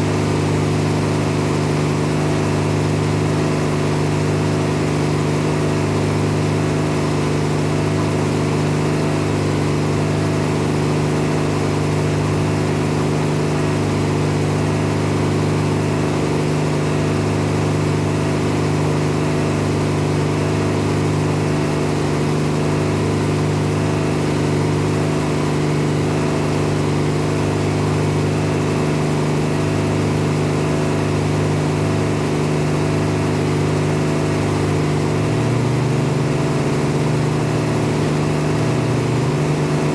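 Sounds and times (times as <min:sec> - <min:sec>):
farm machinery engine running: 0:00.0 - 0:39.9.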